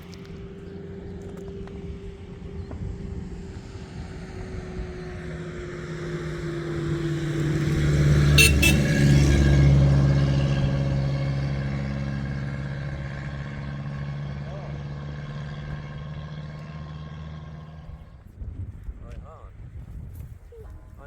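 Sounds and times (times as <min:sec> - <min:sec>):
vehicle engine running: 0:00.0 - 0:18.4.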